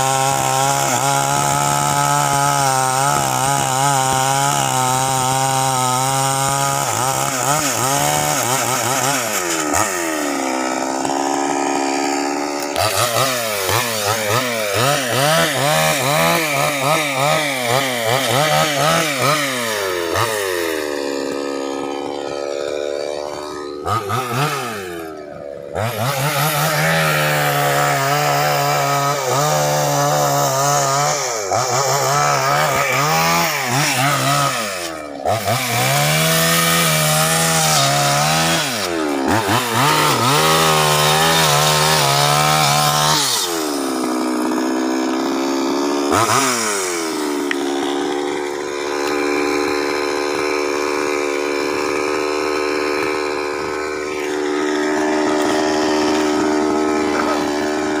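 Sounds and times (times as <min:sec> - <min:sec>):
chainsaw cutting tree trunk: 0:00.0 - 0:58.0.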